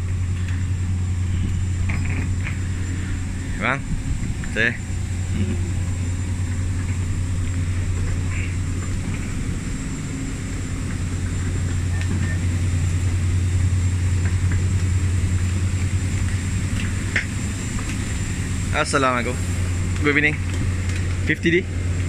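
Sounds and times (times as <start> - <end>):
faint high whine: 0.0 - 20.5
air-conditioning hum: 0.0 - 22.0.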